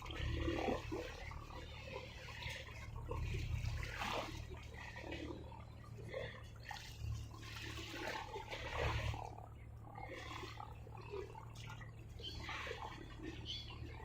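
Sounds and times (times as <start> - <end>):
ocean waves splashing: 0.0 - 13.9
low rumble of surf: 0.0 - 14.0.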